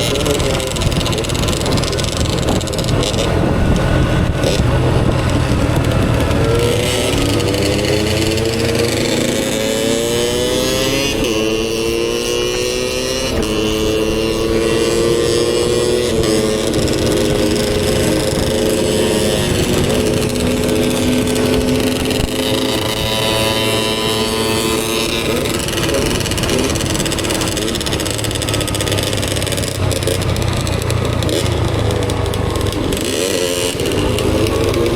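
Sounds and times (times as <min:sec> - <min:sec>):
steady rushing noise: 0:00.0 - 0:11.7, 0:12.9 - 0:34.9
motorcycle engine shifting gears: 0:00.0 - 0:34.9.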